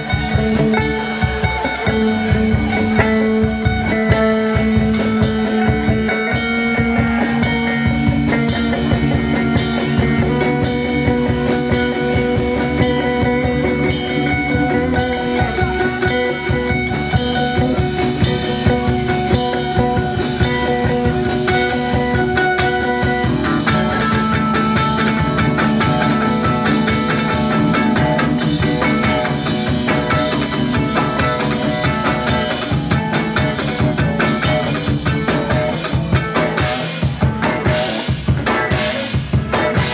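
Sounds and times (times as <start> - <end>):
bass guitar: 0.0 - 39.9
drum kit: 0.0 - 39.9
electric guitars sustained notes: 0.0 - 39.9.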